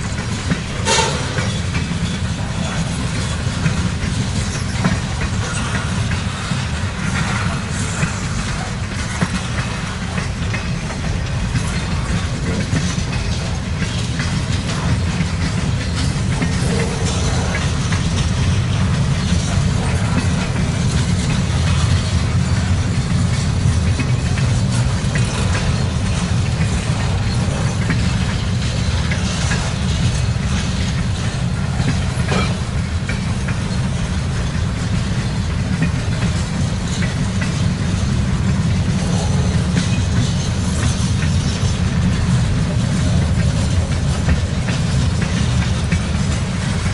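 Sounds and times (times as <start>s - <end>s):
low train rumble: 0.0s - 46.9s
train wheels clicking over rail joints: 0.0s - 46.9s.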